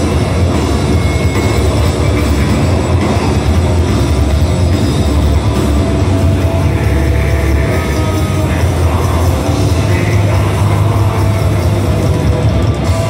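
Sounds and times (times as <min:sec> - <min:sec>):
distorted guitars: 0:00.0 - 0:13.0
drums: 0:00.0 - 0:13.0.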